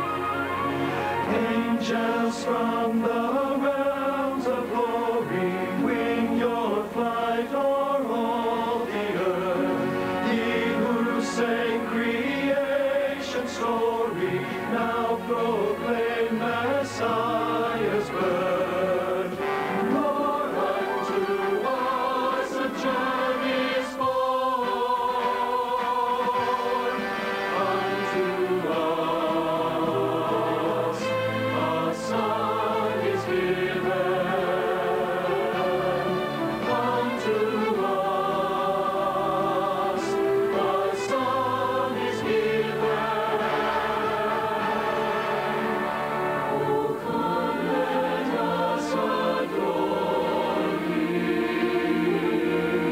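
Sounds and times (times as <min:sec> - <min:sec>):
mixed choir singing: 0:00.0 - 0:52.9.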